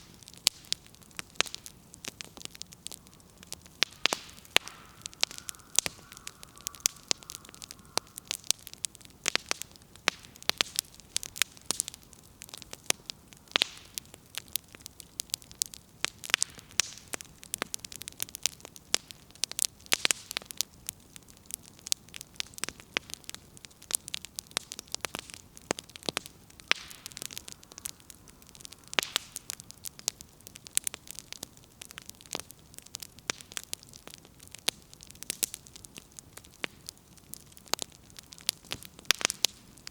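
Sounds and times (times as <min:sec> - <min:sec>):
fire snaps and pops: 0:00.0 - 0:39.9
wood fire crackling: 0:00.0 - 0:39.9.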